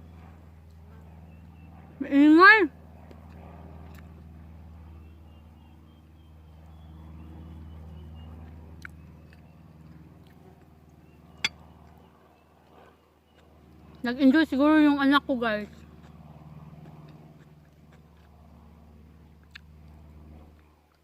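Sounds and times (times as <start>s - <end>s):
airplane engine droning overhead: 0.0s - 21.0s.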